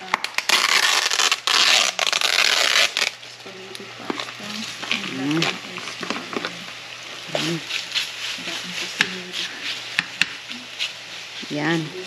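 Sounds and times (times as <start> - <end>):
plastic tray and film crinkling: 0.0 - 12.0.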